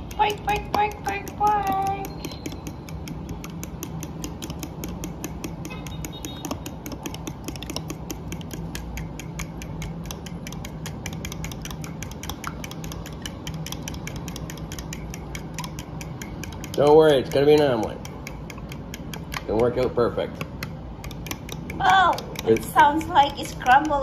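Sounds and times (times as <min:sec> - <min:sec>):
fork beating eggs in tub: 0:00.0 - 0:24.0.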